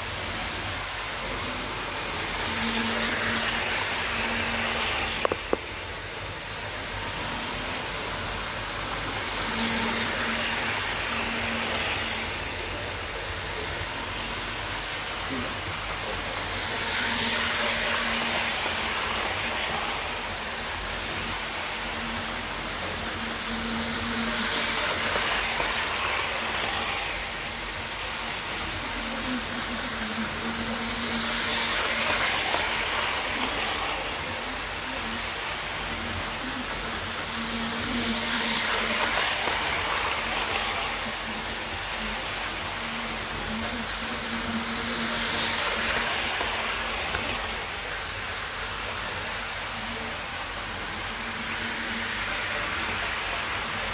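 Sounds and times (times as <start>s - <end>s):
wheels rattling on rail: 0.0s - 50.1s
model train motor hum: 0.0s - 53.9s.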